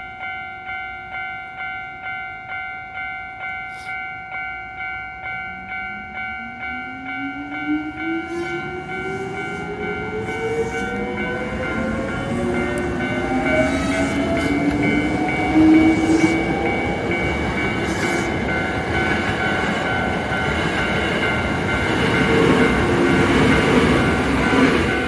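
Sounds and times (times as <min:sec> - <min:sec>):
crossing warning bell ringing: 0:00.0 - 0:25.0
train running noise: 0:02.9 - 0:25.0.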